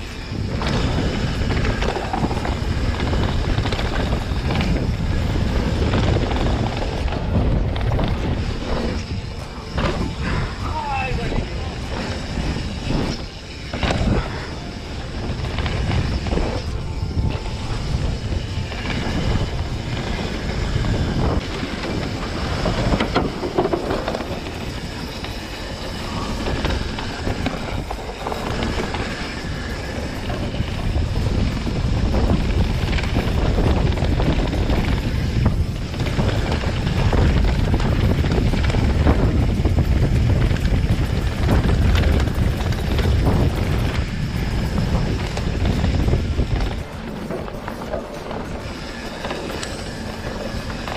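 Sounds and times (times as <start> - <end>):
bike rattling and knocking: 0.0 - 50.9
tyres rolling on dirt: 0.0 - 50.9
wind rumbling on microphone: 0.0 - 50.9.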